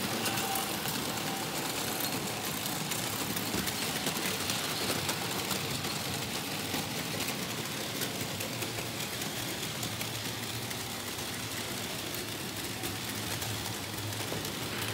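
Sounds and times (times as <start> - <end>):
model train wheels rattling: 0.0 - 14.9.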